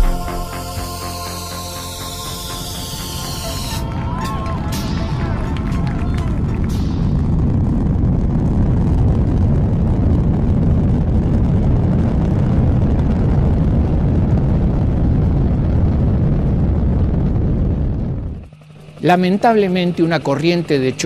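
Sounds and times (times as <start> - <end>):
rocket motor roaring: 0.0 - 21.0.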